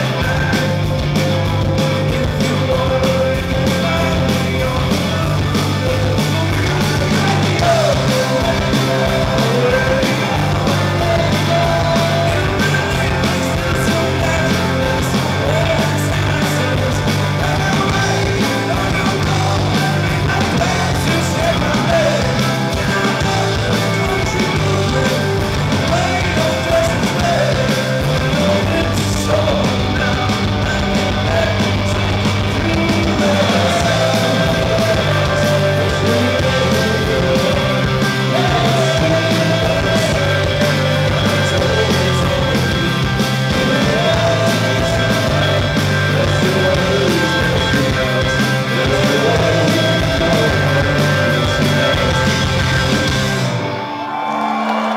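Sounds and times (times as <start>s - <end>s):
person singing: 0.0s - 53.3s
punk rock band playing: 0.0s - 54.9s.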